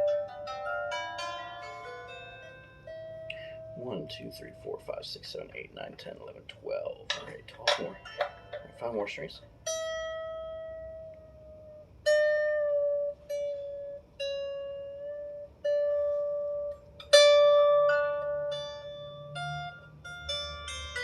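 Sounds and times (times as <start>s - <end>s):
lyre harp string plucked: 0.0s - 21.0s.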